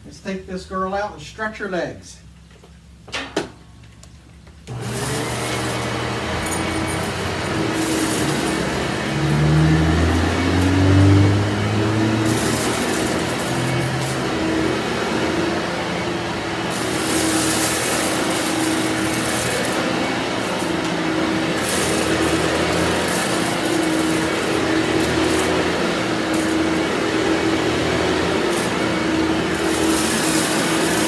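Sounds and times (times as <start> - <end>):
vacuum cleaner motor humming: 4.7 - 31.0
vacuum hissing over floor: 4.7 - 31.0.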